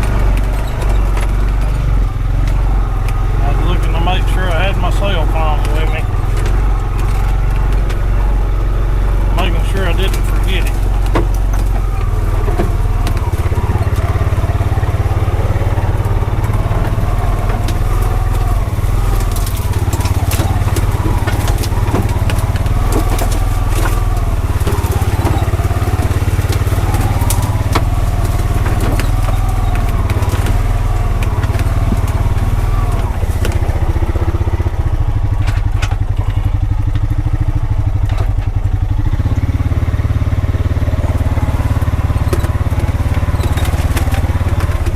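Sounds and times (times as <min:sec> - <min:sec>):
debris cracking under tyres: 0:00.0 - 0:44.9
single-cylinder engine revving: 0:00.0 - 0:44.9.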